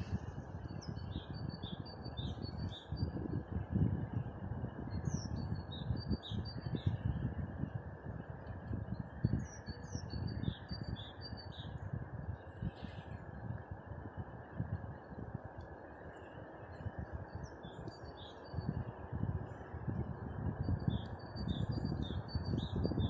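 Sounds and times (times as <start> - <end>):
songbird singing: 0.0 - 7.8, 8.4 - 23.0.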